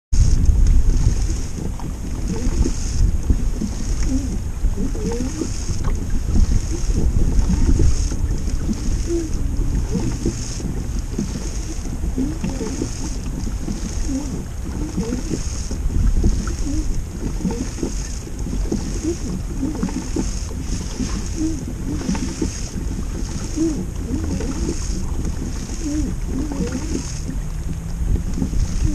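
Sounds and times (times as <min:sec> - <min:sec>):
moving water: 0:00.1 - 0:28.9
wind buffeting microphone: 0:00.1 - 0:28.9.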